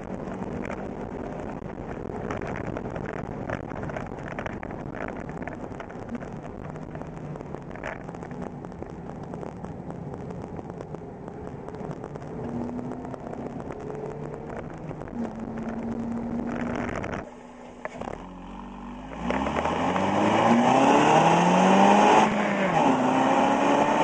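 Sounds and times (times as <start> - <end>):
car engine humming: 0.0 - 24.0
tyre road noise: 0.0 - 24.0.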